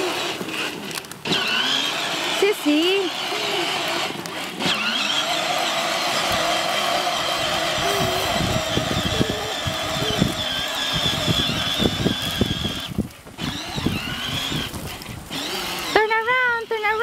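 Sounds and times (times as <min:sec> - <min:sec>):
plastic wheels knocking on grass: 0:00.0 - 0:17.0
toy car electric motor whining: 0:00.0 - 0:17.0.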